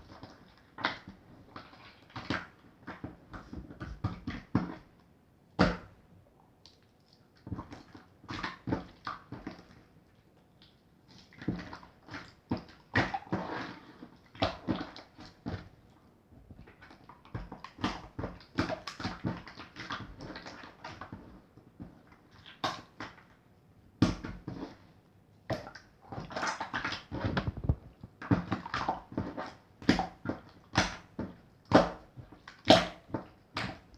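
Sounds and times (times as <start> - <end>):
slime squelching by hand: 0.0 - 4.9, 6.6 - 23.4, 24.0 - 33.9.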